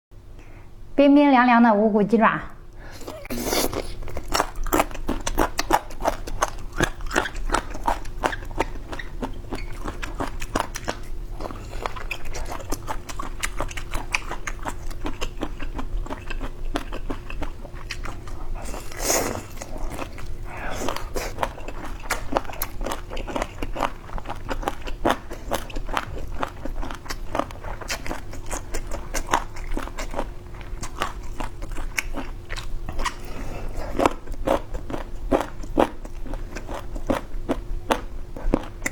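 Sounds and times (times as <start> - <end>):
faint steady hum: 0.2 - 38.9
chewing with crunchy clicks: 3.8 - 38.9.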